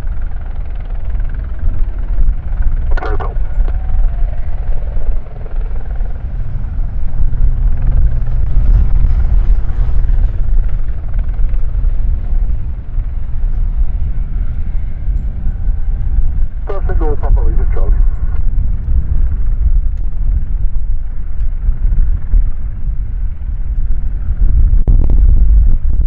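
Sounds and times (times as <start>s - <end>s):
helicopter rotor and engine: 0.0s - 24.8s.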